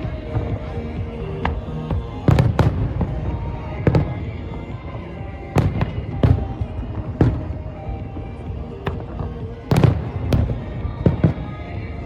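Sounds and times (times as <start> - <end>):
music playing: 0.0 - 12.0
fireworks bangs: 1.4 - 4.7, 5.4 - 11.9.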